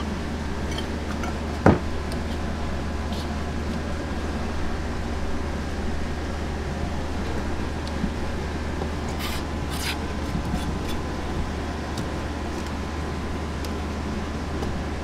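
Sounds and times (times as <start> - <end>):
faint steady whine: 0.0 - 15.0
low machine hum: 0.0 - 15.0.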